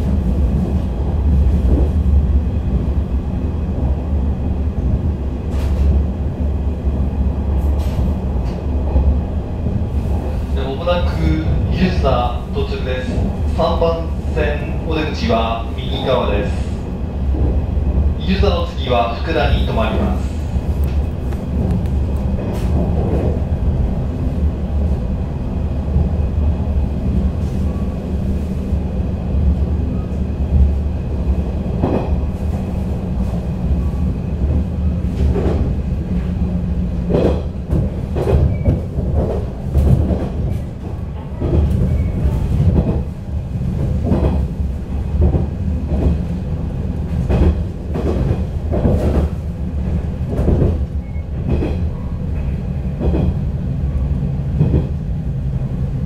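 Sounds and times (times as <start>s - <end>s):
train carriage rumble: 0.0s - 56.0s.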